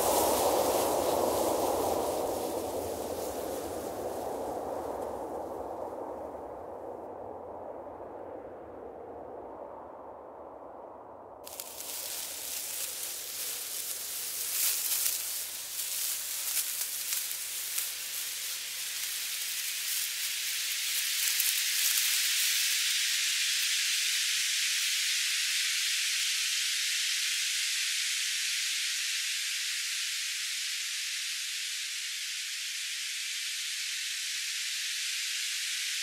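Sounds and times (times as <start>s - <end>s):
snake sliding over sand hiss: 0.0s - 6.8s, 11.4s - 36.0s.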